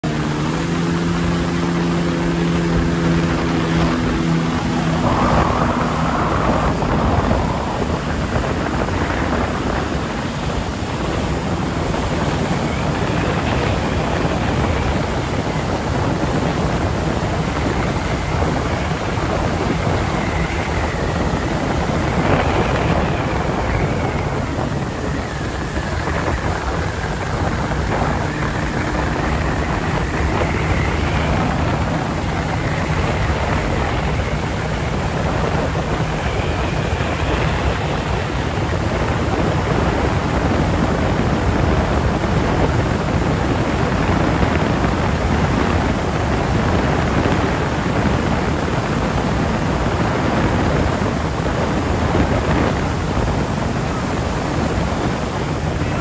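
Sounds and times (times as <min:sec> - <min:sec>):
low boat engine hum: 0:00.0 - 0:56.0
rush of wind and water: 0:00.0 - 0:56.0.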